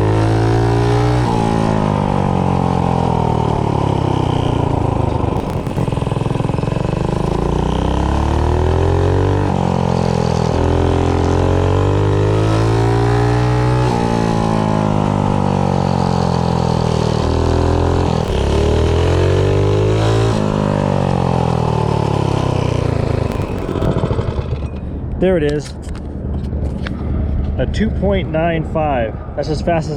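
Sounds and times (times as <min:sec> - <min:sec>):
small engine revving: 0:00.0 - 0:24.9.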